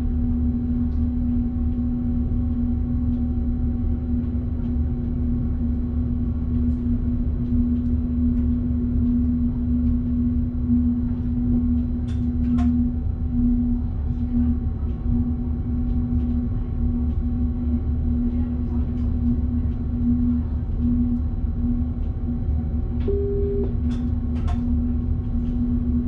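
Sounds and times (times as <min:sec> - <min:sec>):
constant hum: 0:00.0 - 0:26.0.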